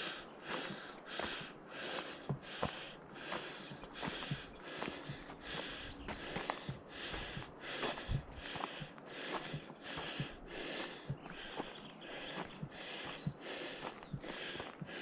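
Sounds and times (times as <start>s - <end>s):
footsteps on trail: 0.0s - 15.0s
person breathing hard: 0.0s - 15.0s.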